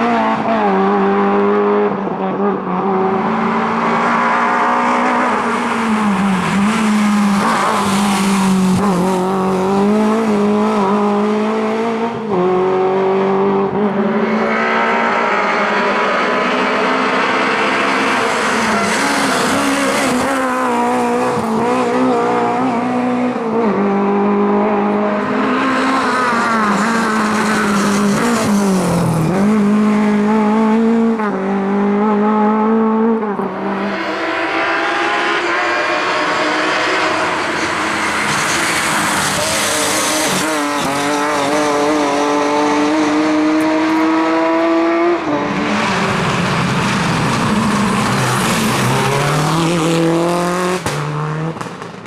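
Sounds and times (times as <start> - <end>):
rally car engine revving: 0.0 - 52.0.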